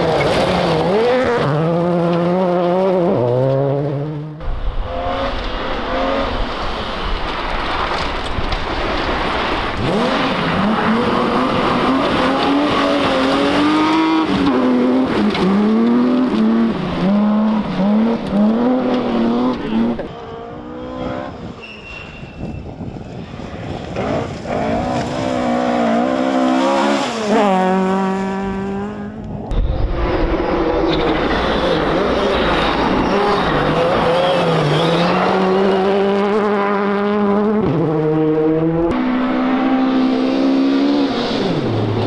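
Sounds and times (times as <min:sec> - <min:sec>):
car engine passing at high revs: 0:00.0 - 0:07.9, 0:08.9 - 0:21.6, 0:23.4 - 0:42.0
rally car engines revving: 0:00.0 - 0:21.9, 0:23.1 - 0:42.0.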